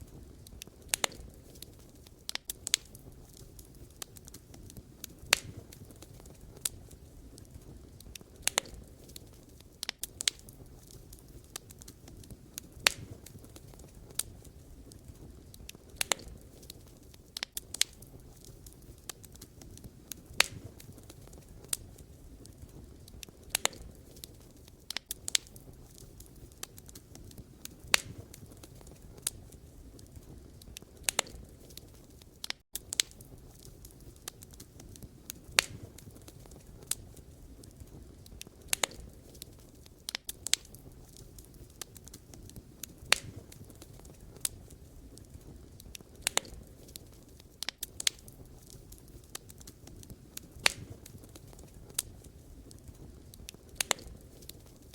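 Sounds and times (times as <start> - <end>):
campfire pops and crackles: 0.0 - 54.9
low rumble of flames: 0.0 - 54.9.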